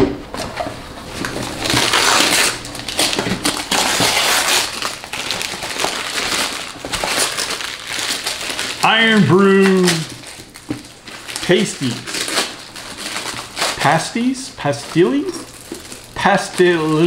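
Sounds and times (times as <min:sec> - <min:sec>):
wrapping paper tearing and crumpling: 0:01.0 - 0:17.0.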